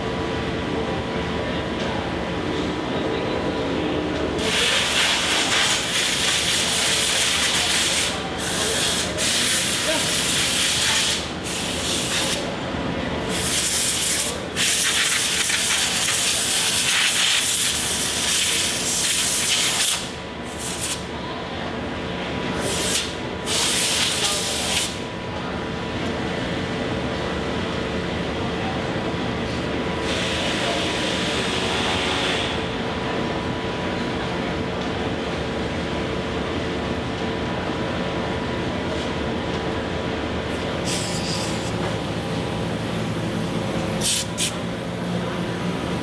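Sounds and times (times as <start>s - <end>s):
machinery hum: 0.0s - 19.0s, 20.0s - 46.0s.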